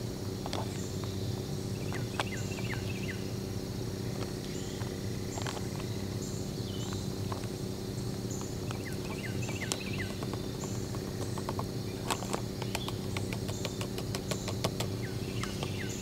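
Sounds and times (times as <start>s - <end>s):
insect calling: 0.0s - 16.0s
steady low hum: 0.0s - 16.0s
bird chirping: 0.7s - 3.3s, 4.5s - 7.2s, 8.0s - 16.0s.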